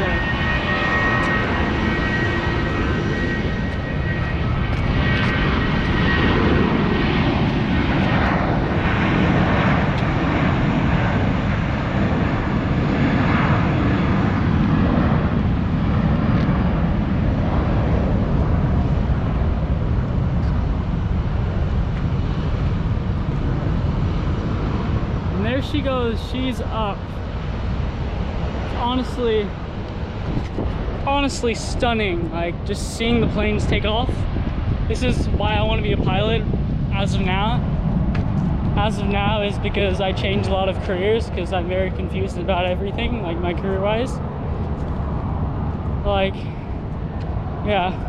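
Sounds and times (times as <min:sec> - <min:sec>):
jet airliner taking off: 0:00.0 - 0:48.0.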